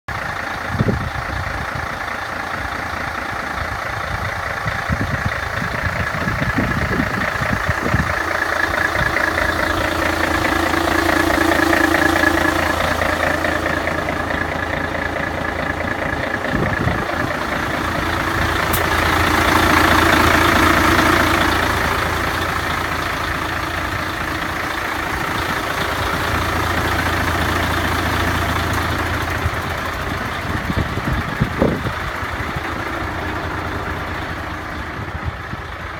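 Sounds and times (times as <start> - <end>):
truck diesel engine idling: 0.1 - 35.9.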